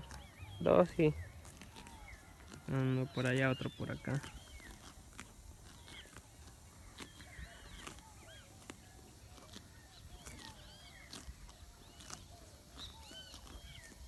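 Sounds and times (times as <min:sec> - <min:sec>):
birds chirping: 0:00.0 - 0:14.0
ox tearing grass: 0:00.0 - 0:14.0.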